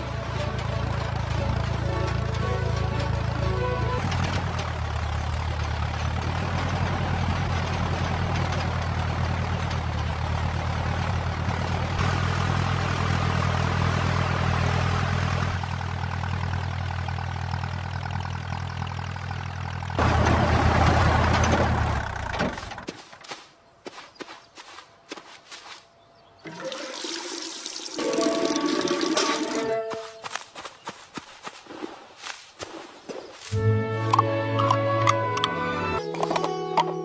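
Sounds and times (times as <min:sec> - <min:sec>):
tractor engine droning: 0:00.0 - 0:24.8, 0:25.4 - 0:31.6, 0:33.5 - 0:37.0.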